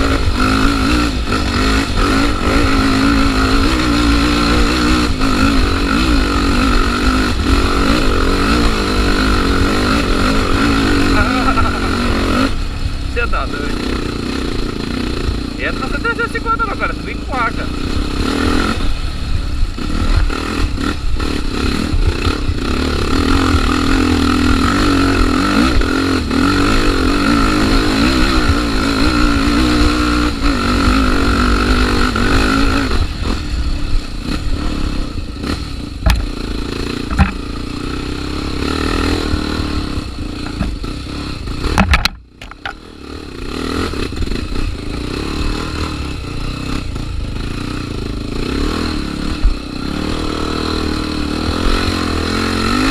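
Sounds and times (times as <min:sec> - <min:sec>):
motorcycle engine under load: 0:00.0 - 0:52.9.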